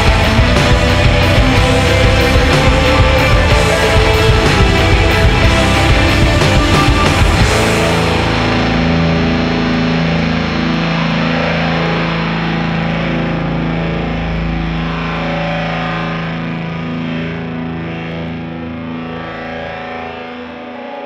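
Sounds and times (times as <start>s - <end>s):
rock music with electric guitar: 0.0s - 21.0s.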